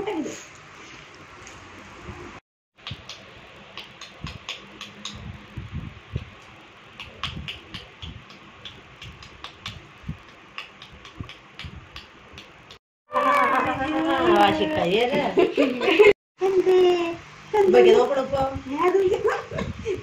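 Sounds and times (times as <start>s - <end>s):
fan-like background noise: 0.0s - 20.0s.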